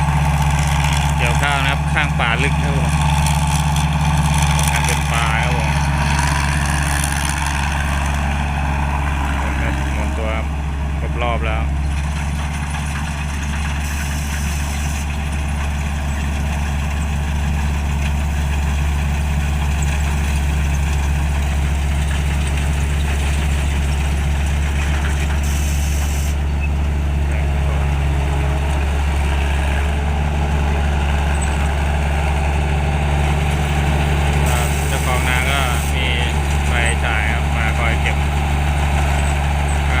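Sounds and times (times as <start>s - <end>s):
diesel engine droning: 0.0s - 40.0s.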